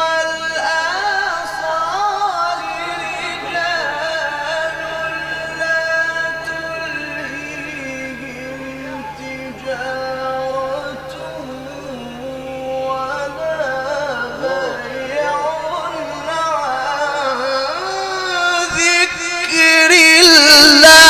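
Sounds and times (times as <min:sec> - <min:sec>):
man reciting in ornamented chant: 0:00.0 - 0:21.0.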